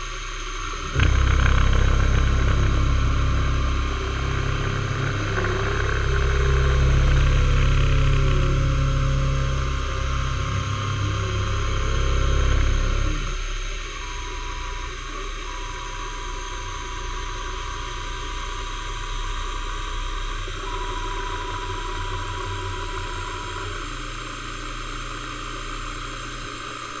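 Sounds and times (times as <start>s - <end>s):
milling machine humming: 0.0s - 27.0s.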